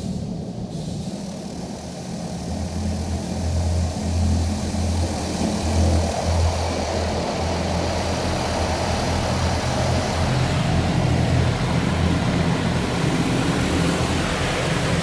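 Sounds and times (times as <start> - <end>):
car wash low hum: 0.0 - 15.0.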